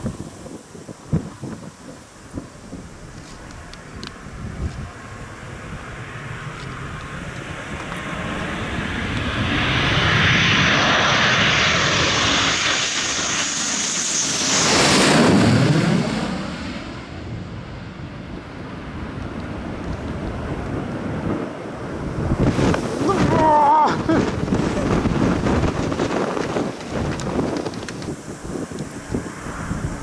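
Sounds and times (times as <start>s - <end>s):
jet flying low overhead: 0.0s - 30.0s.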